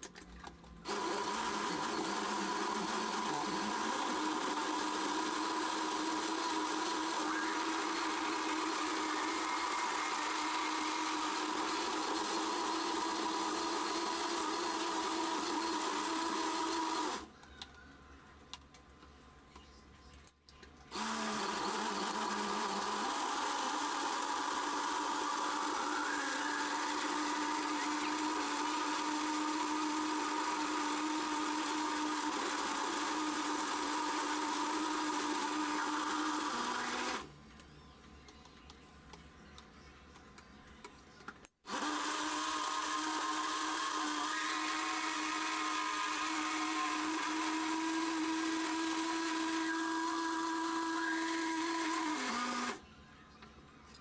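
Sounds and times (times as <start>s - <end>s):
electric blender running: 0.9s - 17.3s, 20.9s - 37.3s, 41.6s - 52.8s.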